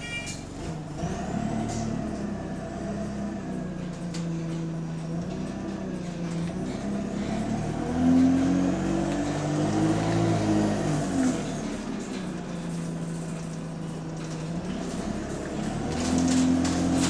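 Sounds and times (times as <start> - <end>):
diesel bus engine accelerating: 0.0 - 17.0.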